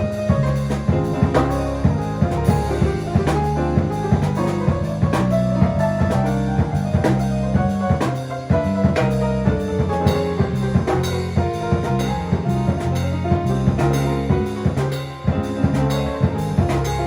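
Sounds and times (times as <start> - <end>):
drum kit playing a busy groove: 0.0 - 17.0
sustained bass notes: 0.0 - 17.0.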